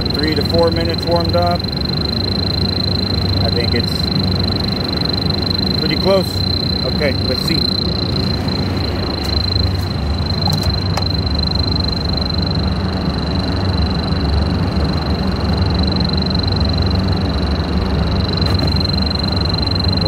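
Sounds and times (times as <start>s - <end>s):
leak detector high-pitched tone: 0.0s - 20.0s
low hum: 0.0s - 20.0s.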